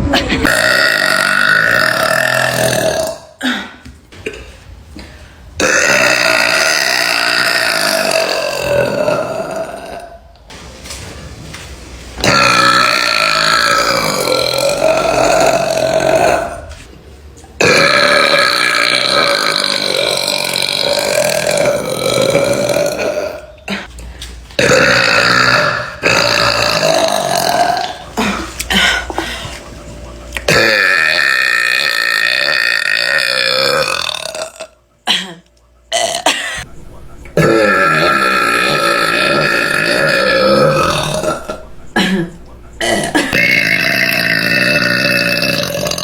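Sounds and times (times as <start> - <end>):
woman belching loudly: 0.1 - 3.6, 5.6 - 10.2, 12.2 - 16.7, 17.6 - 23.9, 24.6 - 28.9, 30.5 - 35.2, 35.9 - 36.6, 37.4 - 46.0.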